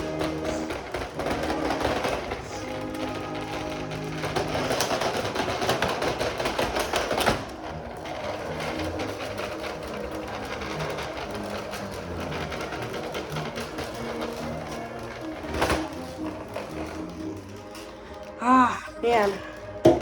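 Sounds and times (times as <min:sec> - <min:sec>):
vacuum cleaner rattling: 0:00.0 - 0:18.4, 0:19.0 - 0:20.0.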